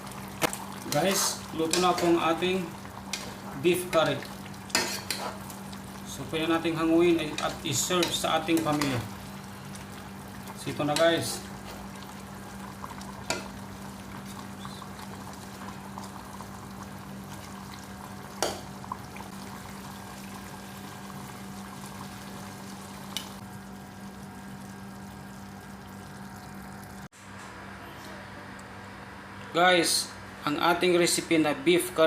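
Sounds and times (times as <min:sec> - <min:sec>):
pot simmering with faint bubbling: 0:00.0 - 0:27.1.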